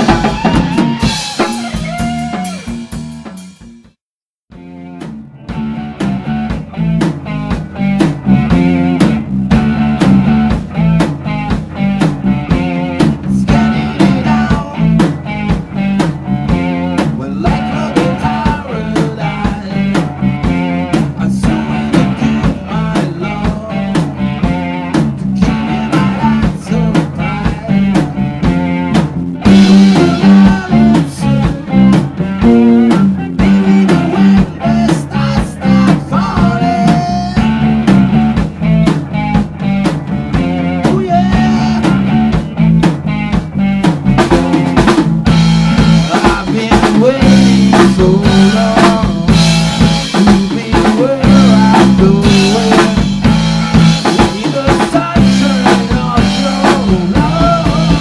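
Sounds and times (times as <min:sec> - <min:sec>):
rock band with drums and guitar: 0:00.0 - 0:58.0.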